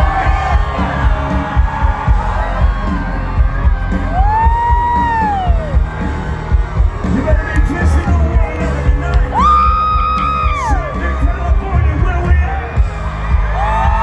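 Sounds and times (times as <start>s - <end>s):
crowd voices: 0.0s - 14.0s
thumping bass beat: 0.0s - 14.0s.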